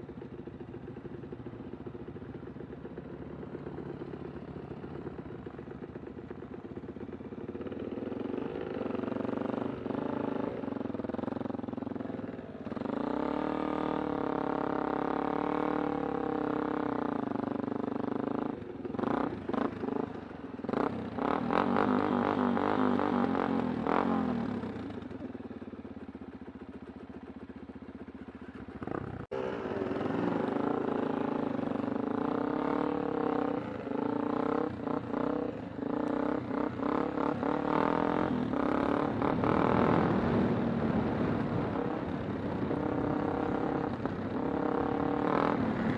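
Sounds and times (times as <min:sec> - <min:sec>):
motorcycle engine revving: 0:02.9 - 0:45.9.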